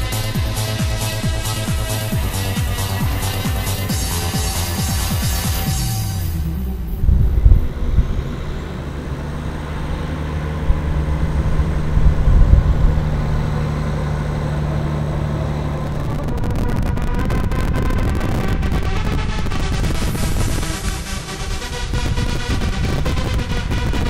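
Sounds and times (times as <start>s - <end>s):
road rumble: 0.0s - 24.0s
vehicle engine drone: 0.0s - 24.0s.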